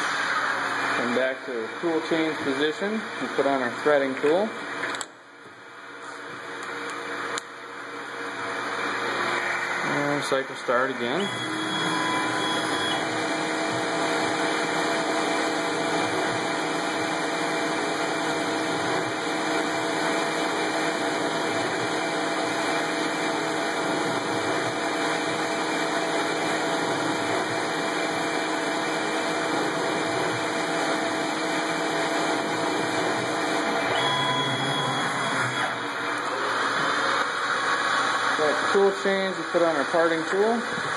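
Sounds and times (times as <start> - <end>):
lathe machine hum: 7.7 - 40.9.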